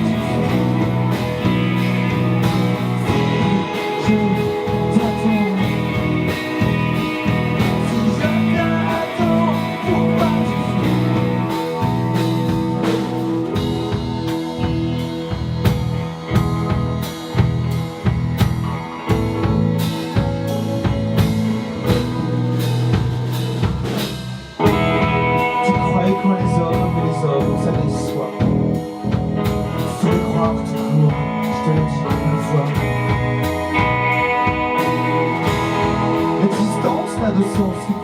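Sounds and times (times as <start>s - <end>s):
bass guitar: 0.0s - 38.0s
steady drum beat: 0.0s - 38.0s
sustained electric guitar: 0.0s - 38.0s.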